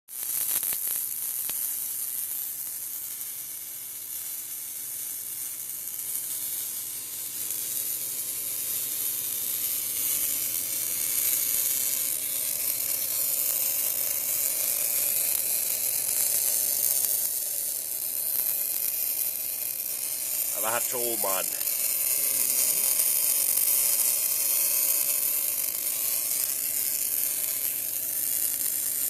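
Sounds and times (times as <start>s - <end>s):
arc welding crackling sizzle: 0.1s - 29.0s.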